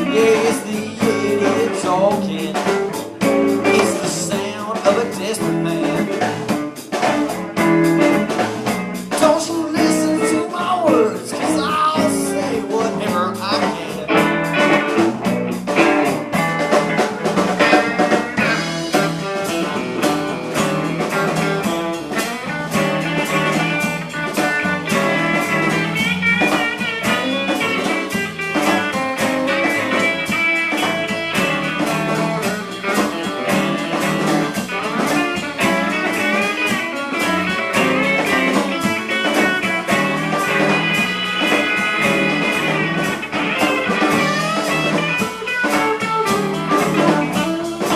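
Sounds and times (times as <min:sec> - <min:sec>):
blues guitar: 0:00.0 - 0:47.9
drum kit beat: 0:00.0 - 0:47.9.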